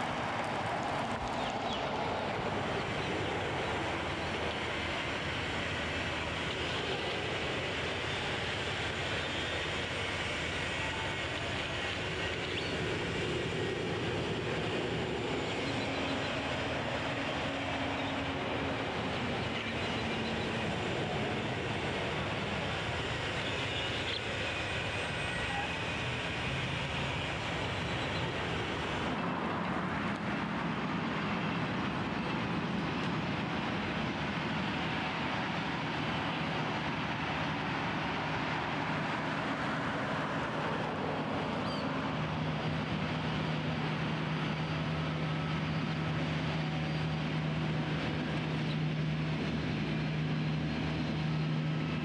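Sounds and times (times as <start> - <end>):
distant machinery: 0.0 - 52.0.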